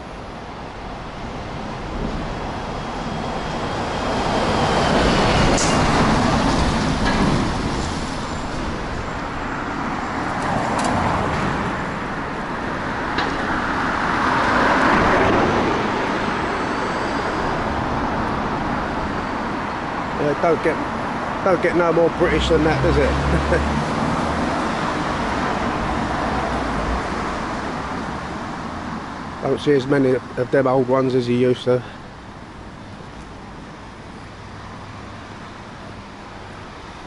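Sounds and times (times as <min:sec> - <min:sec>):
cars passing: 0:00.0 - 0:37.0
steady road noise: 0:00.0 - 0:37.0.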